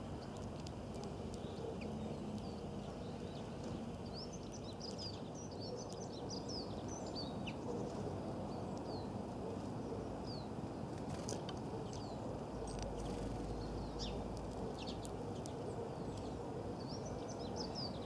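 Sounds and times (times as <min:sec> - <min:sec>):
small songbirds chirping: 0:00.0 - 0:18.0.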